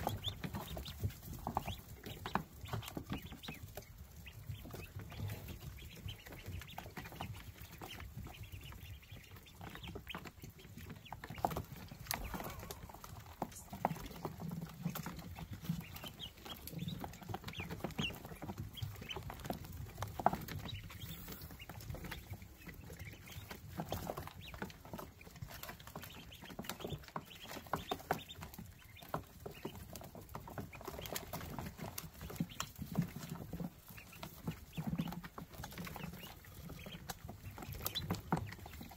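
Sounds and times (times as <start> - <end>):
ducklings peeping: 0.0 - 38.9
scratchy rustling and pattering: 0.0 - 38.9.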